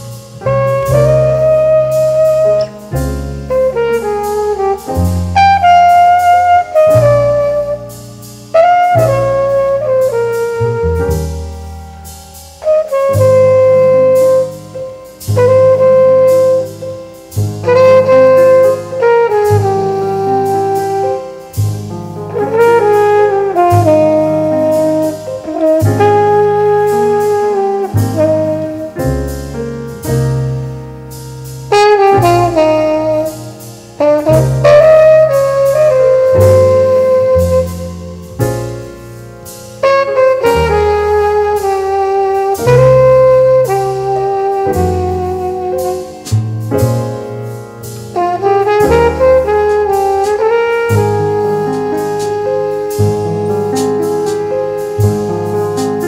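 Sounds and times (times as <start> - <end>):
bass line: 0.0 - 56.0
jazz horn section riff: 0.0 - 56.0.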